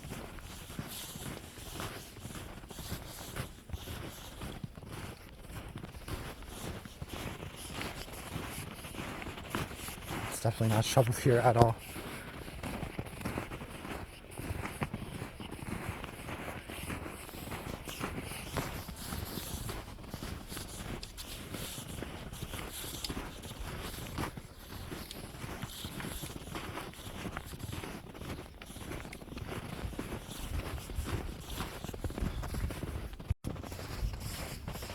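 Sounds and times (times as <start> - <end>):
footsteps crunching through snow: 0.0 - 34.9.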